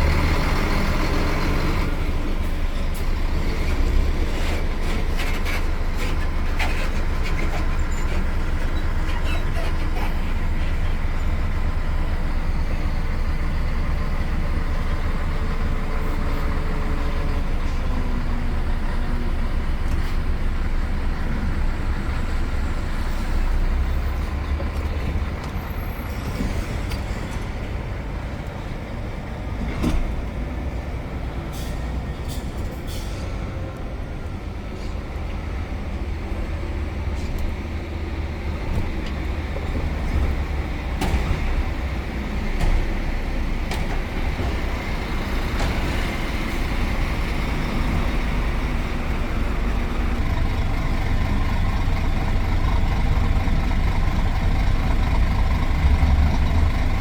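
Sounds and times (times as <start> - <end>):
road noise: 0.0 - 57.0
truck diesel engine droning: 0.0 - 57.0.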